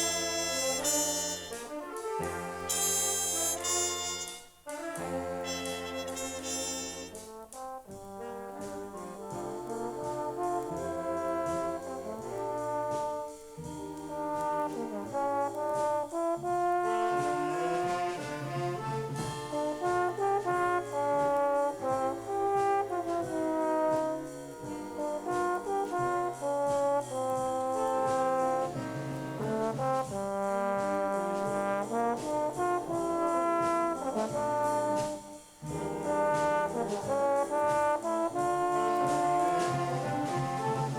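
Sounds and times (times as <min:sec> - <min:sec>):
brass section playing jazz chords: 0:00.0 - 0:40.9.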